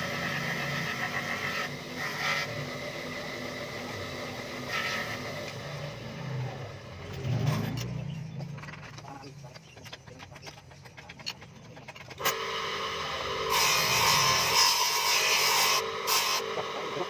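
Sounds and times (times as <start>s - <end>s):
grinding wheel motor hum: 0.0s - 17.0s.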